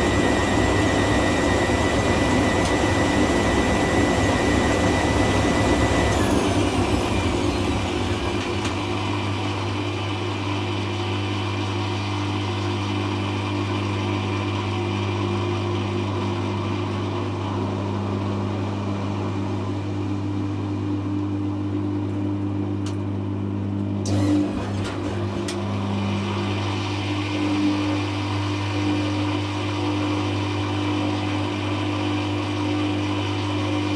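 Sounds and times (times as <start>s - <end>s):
washing machine humming: 0.0s - 33.9s.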